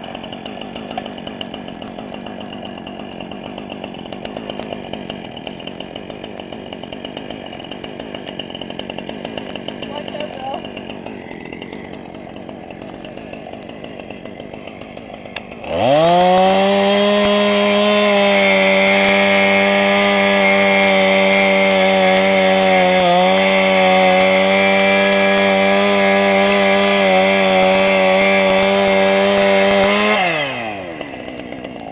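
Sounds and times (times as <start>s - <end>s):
two-stroke chainsaw revving: 0.0s - 31.9s.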